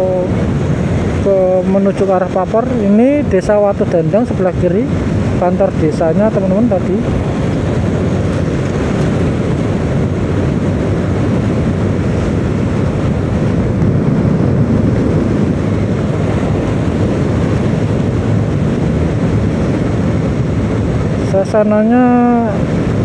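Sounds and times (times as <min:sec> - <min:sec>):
vehicle road noise: 0:00.0 - 0:23.0
wind buffeting microphone: 0:00.0 - 0:23.0.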